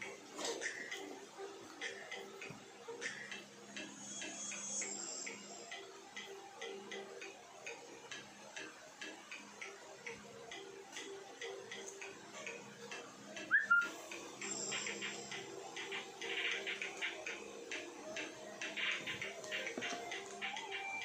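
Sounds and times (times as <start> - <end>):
faint steady ticking: 0.0 - 21.0.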